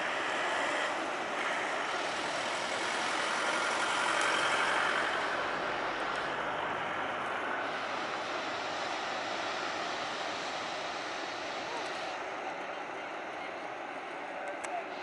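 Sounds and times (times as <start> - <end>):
heavy ocean surf breaking: 0.0 - 12.4.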